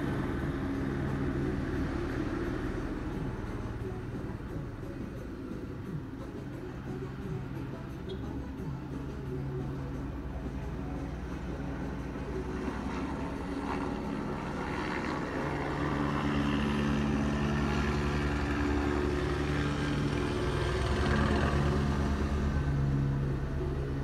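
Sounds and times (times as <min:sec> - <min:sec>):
engine drone with low pulse: 0:00.0 - 0:24.0.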